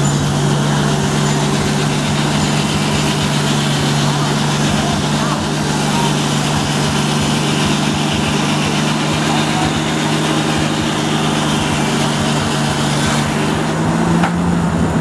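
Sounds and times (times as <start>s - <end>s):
high hiss of sawing: 0.0s - 14.2s
sawmill machinery drone: 0.0s - 15.0s.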